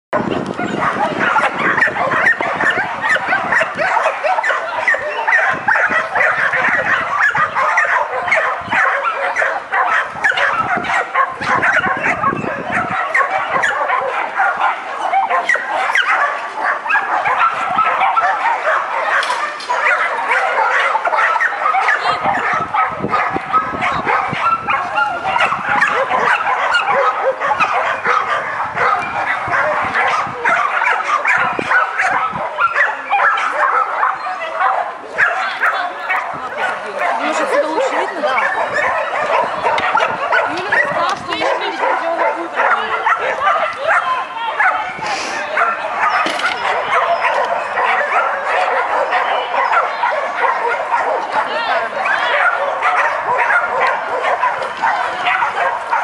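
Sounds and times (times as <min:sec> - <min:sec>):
dog barking and yipping: 0:00.2 - 0:56.0.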